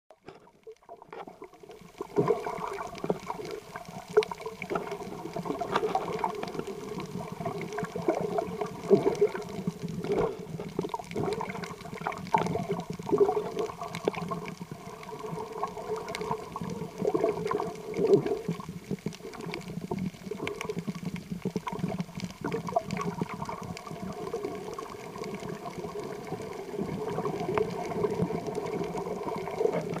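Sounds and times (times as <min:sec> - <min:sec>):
muffled underwater sloshing: 0:00.1 - 0:30.0
faint clicks: 0:00.2 - 0:30.0.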